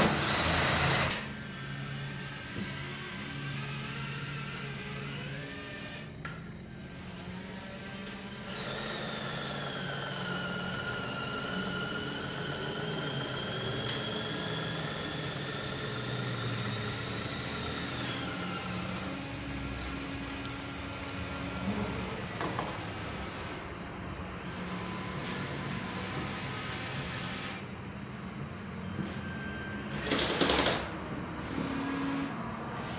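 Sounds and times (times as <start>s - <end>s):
electric toy motors whining: 0.0s - 23.6s, 24.5s - 27.7s.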